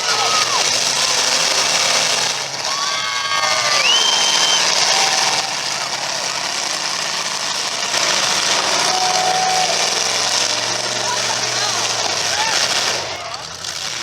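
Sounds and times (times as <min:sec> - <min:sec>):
demolition derby car engines: 0:00.0 - 0:14.0
steady noisy din: 0:00.0 - 0:14.0.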